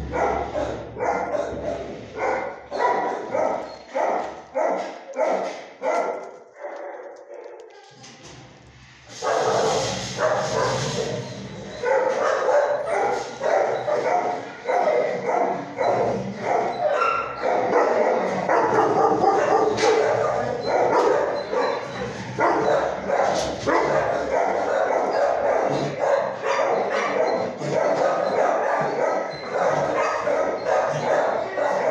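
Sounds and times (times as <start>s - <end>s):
many dogs barking: 0.0s - 7.8s, 9.1s - 31.9s.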